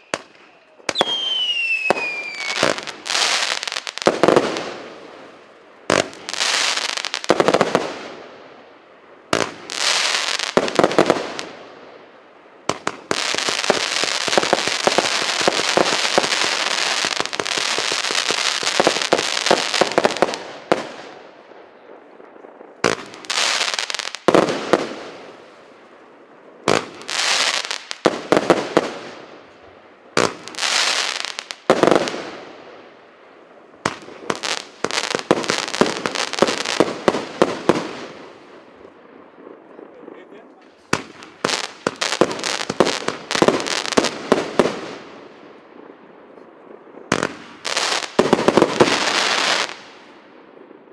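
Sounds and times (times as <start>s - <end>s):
firework crackling: 0.0s - 46.0s, 46.9s - 50.9s.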